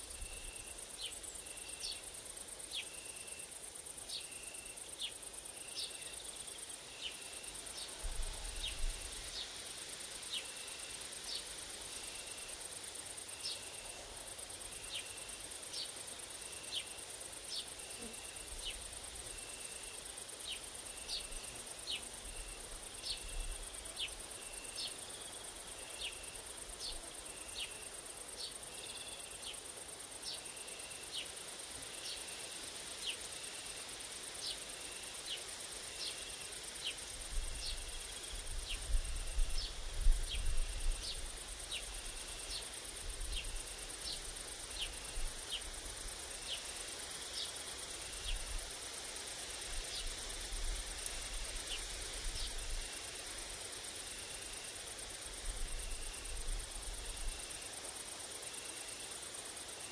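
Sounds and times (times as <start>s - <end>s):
grasshoppers and crickets chirping: 0.0s - 59.9s.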